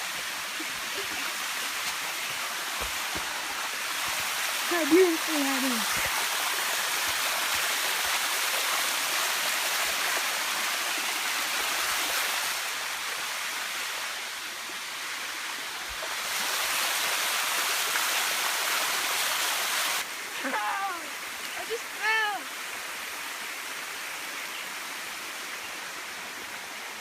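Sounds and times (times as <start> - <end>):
water cascading down rock: 0.0 - 27.0.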